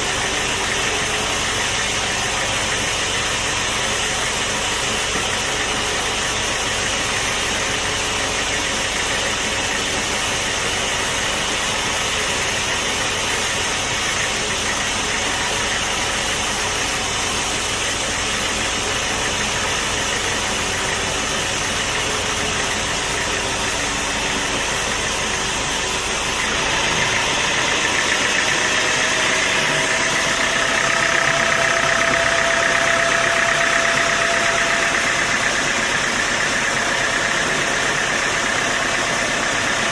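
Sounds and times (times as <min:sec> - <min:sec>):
sawmill machinery running: 0:00.0 - 0:39.9
steady machine whine: 0:00.0 - 0:39.9.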